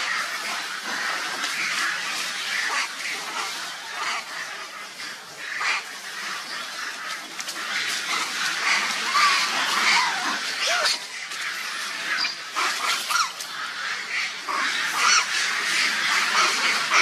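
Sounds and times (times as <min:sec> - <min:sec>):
monkeys squeaking and cooing: 0:00.0 - 0:13.5, 0:14.1 - 0:17.0.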